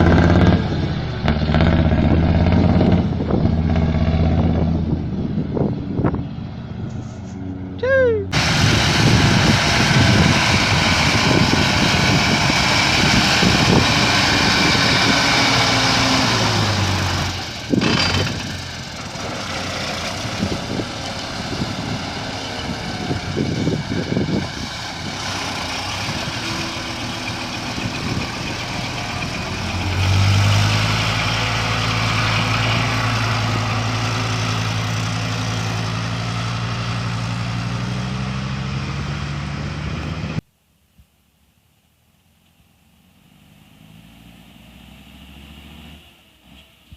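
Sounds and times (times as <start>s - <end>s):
vehicle engine rumbling: 0.0s - 46.9s.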